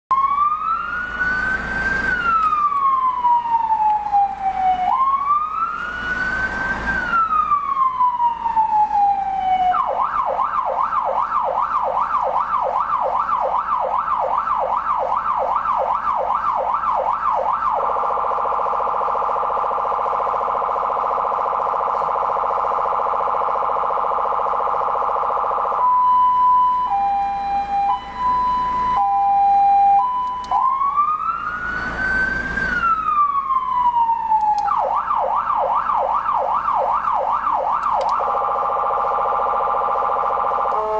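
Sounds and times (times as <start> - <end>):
electronic siren cycling tones: 0.1 - 40.9.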